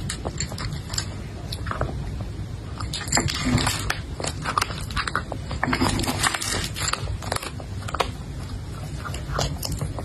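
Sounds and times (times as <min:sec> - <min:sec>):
cat crunching dry kibble: 0:00.0 - 0:02.0, 0:02.6 - 0:10.0.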